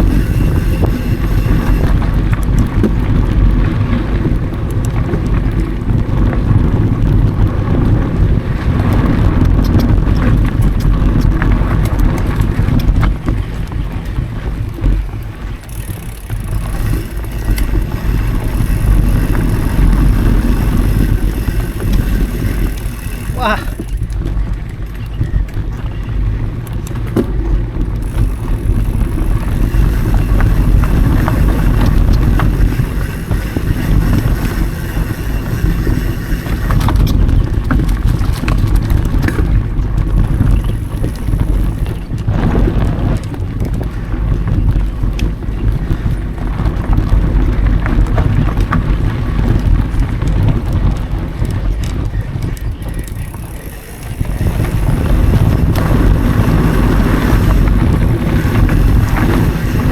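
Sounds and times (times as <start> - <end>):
bike rattles and clicks: 0.0 - 59.9
tyres rumbling on dirt: 0.0 - 59.9
wind buffeting: 0.0 - 59.9.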